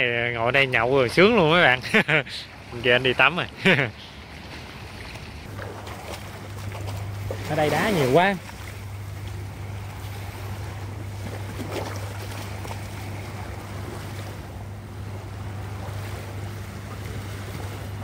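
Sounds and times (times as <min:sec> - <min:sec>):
light surf: 0:00.0 - 0:18.0
low motor hum: 0:00.0 - 0:18.0
wind: 0:00.0 - 0:18.0.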